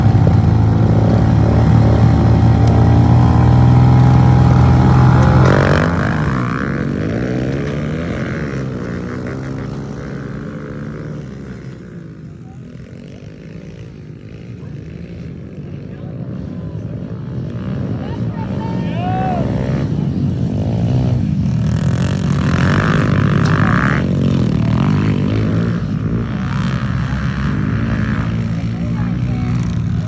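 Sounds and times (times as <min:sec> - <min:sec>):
pit bike engines revving: 0:00.0 - 0:30.0.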